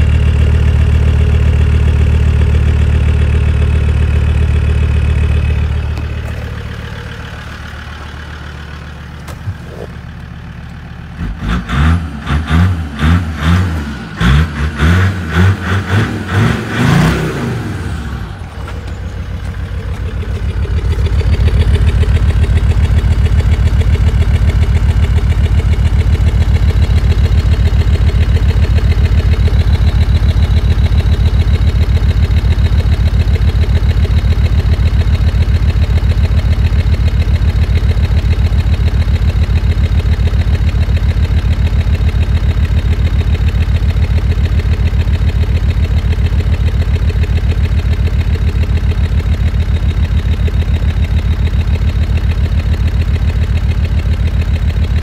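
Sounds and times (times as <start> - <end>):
diesel engine exhaust idling: 0.0 - 55.0.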